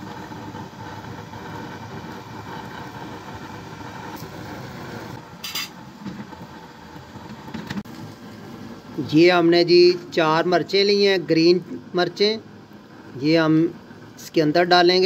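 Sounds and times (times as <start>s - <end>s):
stove burner hissing: 0.0s - 15.0s.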